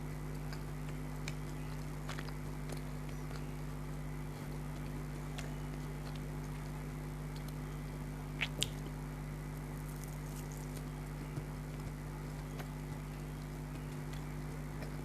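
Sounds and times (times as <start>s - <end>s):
low electrical hum: 0.0s - 15.0s
chewing ticks: 0.2s - 7.6s, 9.8s - 15.0s.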